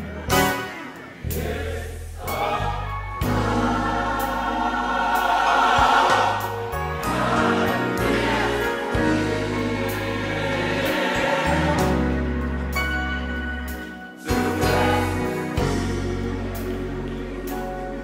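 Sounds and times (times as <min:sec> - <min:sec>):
choir singing gospel song: 0:00.0 - 0:18.0
band playing steady beat: 0:00.3 - 0:18.0.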